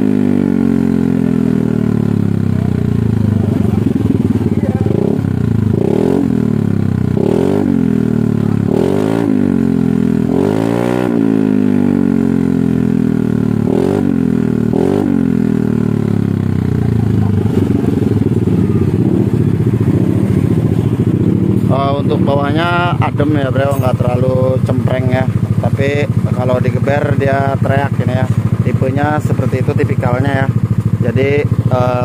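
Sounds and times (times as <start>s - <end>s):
scooter engine idling: 0.0s - 32.0s
scooter engine revving: 0.0s - 32.0s.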